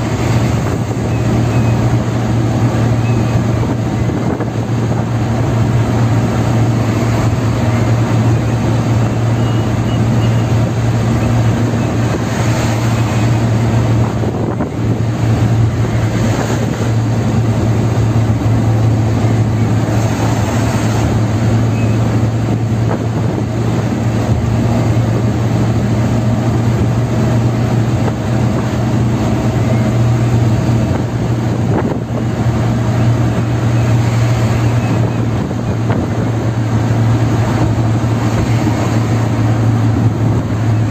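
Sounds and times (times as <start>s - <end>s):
car engine and tyre drone: 0.0s - 40.9s.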